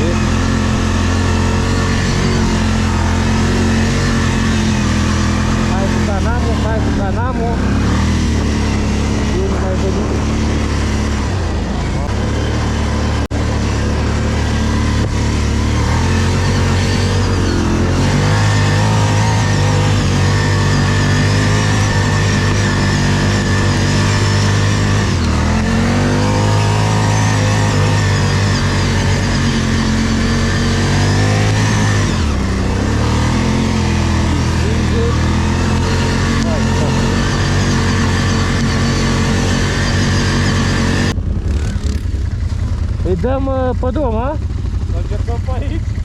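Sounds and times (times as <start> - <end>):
quad bike engine running: 0.0 - 46.0.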